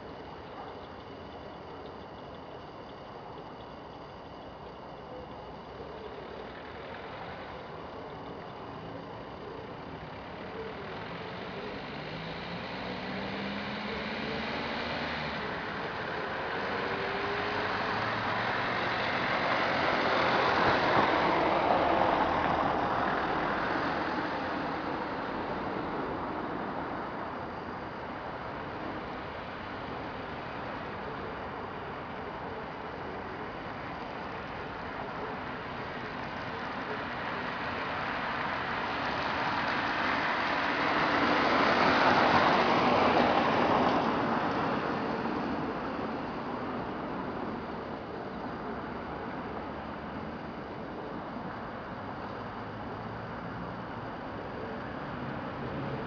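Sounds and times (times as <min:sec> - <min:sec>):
road vehicle passing: 0:05.5 - 0:56.0.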